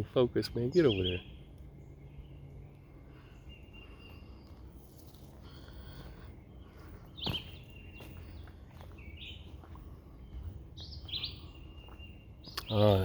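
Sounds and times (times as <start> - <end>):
birds chirping: 0.0 - 13.0
low outdoor rumble: 0.0 - 13.0.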